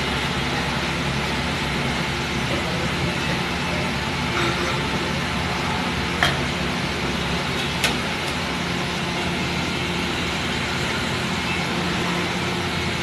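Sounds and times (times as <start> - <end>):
busy street-food stall noise: 0.0 - 13.0.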